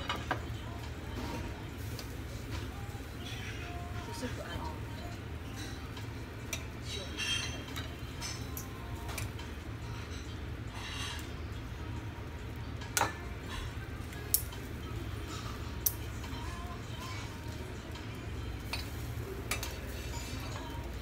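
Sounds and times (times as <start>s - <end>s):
utensils and dishes clinking: 0.0s - 21.0s.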